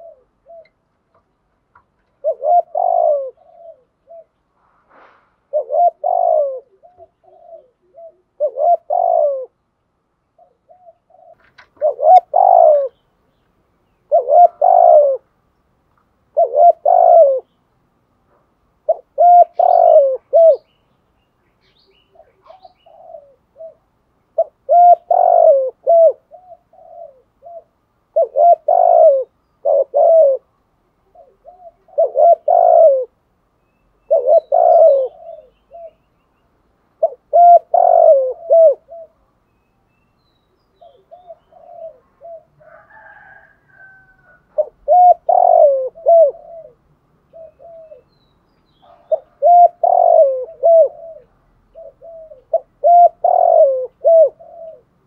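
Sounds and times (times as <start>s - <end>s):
dove cooing: 0.0s - 0.8s, 2.1s - 4.4s, 5.5s - 9.6s, 10.3s - 13.0s, 14.0s - 15.3s, 16.3s - 17.6s, 18.8s - 20.8s, 21.6s - 33.2s, 34.0s - 36.1s, 37.0s - 39.4s, 40.6s - 48.2s, 48.8s - 55.0s.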